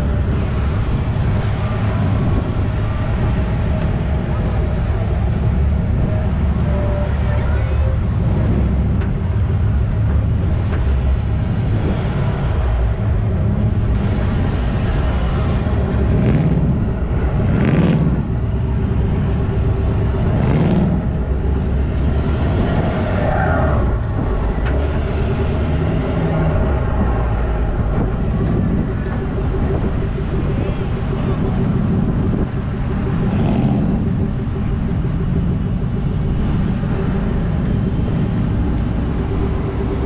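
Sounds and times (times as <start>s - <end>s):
rushes of noise: 0.0s - 40.0s
vehicle engine and road rumble: 0.0s - 40.0s.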